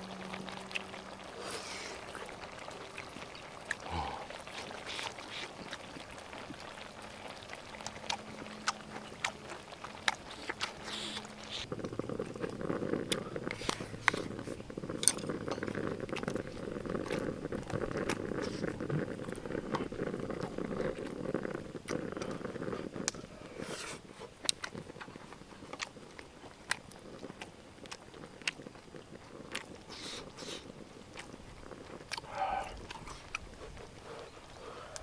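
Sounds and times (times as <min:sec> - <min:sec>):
low steady hiss: 0:00.0 - 0:35.0
chewing and biting food: 0:00.6 - 0:35.0.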